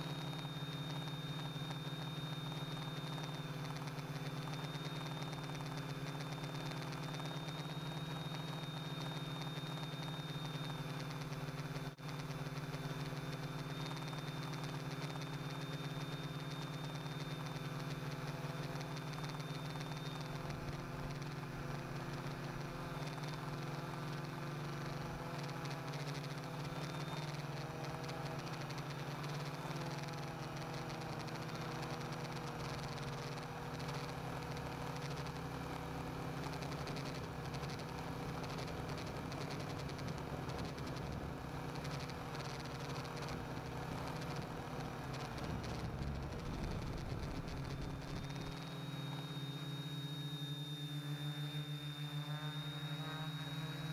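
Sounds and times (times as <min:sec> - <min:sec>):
drone propellers buzzing: 0:00.0 - 0:53.9
thin high whine: 0:00.0 - 0:53.9.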